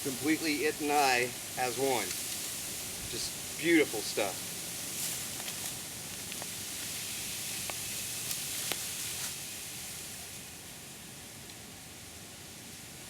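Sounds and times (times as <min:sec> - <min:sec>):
wind rustling bamboo leaves: 0:00.0 - 0:13.0.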